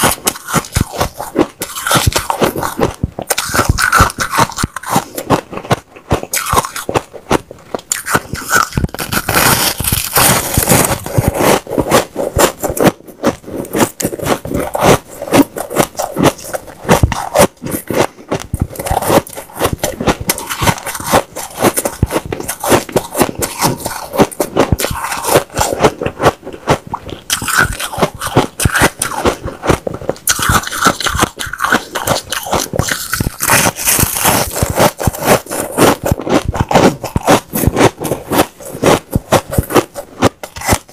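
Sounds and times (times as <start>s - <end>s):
ice being crunched: 0.0s - 17.9s, 18.5s - 26.1s, 27.0s - 29.5s, 30.2s - 40.9s.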